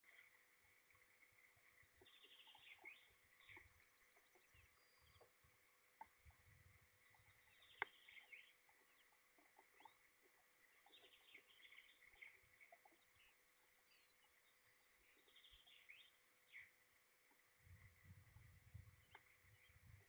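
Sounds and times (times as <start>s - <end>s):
distant small birds chirping: 0.0s - 20.0s.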